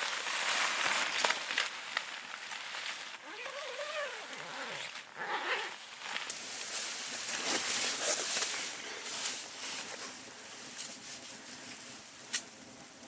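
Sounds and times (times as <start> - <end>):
steady hiss with light crackles: 0.0 - 13.0.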